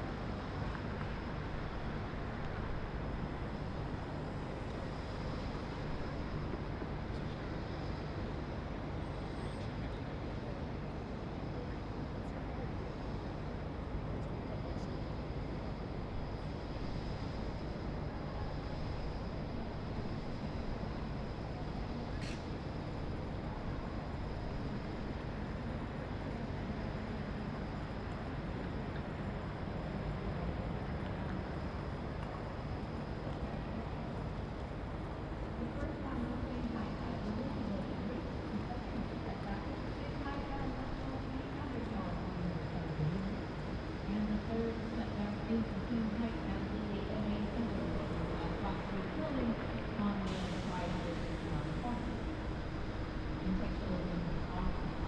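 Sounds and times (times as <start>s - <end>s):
faint high whine: 0.0s - 55.0s.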